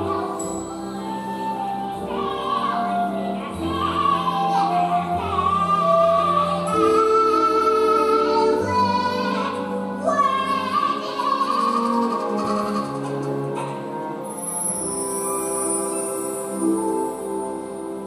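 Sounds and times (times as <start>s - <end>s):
sustained instrumental accompaniment: 0.0s - 18.0s.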